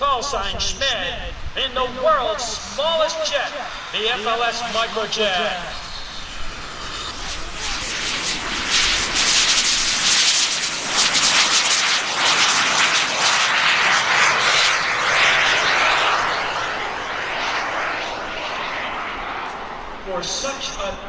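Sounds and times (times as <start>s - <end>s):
jet engine passing by: 0.0s - 21.0s.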